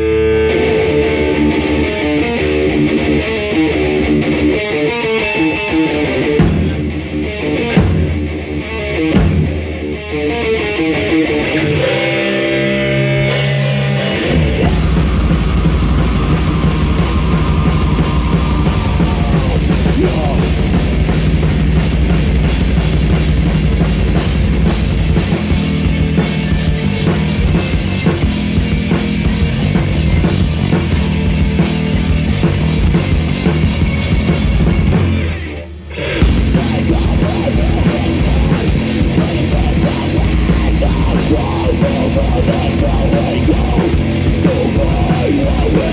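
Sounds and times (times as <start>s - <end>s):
electric guitar line: 0.0s - 45.9s
heavy rock band playing: 0.0s - 45.9s.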